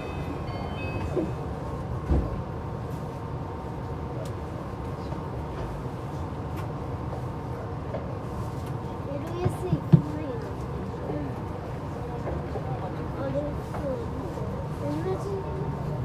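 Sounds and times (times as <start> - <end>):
monorail train rumbling: 0.0 - 16.0.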